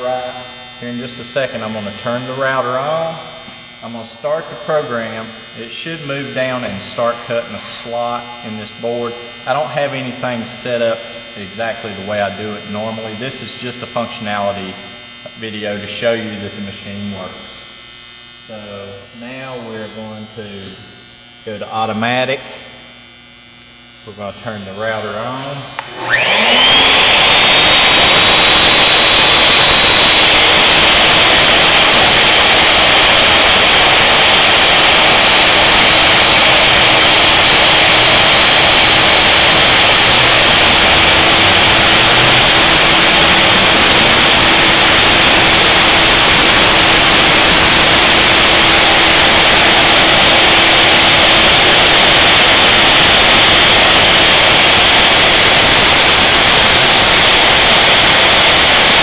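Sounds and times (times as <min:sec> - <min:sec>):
router motor running with whine: 0:00.0 - 0:59.0.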